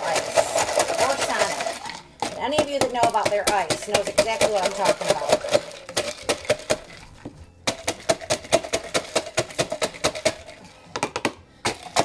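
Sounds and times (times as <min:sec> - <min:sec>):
muddler crushing ice in tin: 0:00.0 - 0:12.0.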